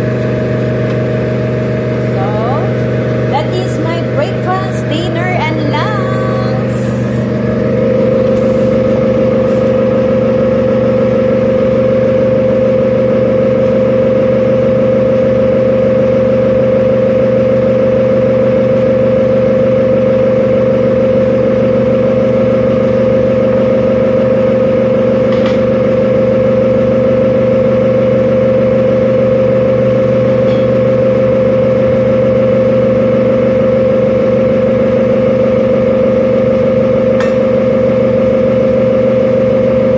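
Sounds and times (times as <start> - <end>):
extractor fan humming: 0.0 - 39.9.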